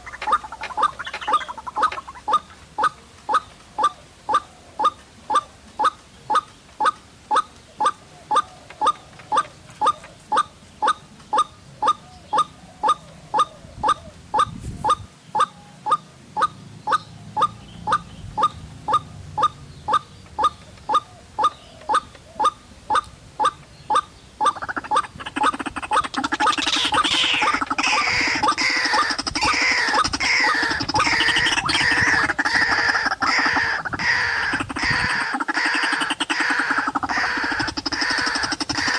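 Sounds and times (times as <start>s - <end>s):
bird croaking call: 0.0s - 38.9s.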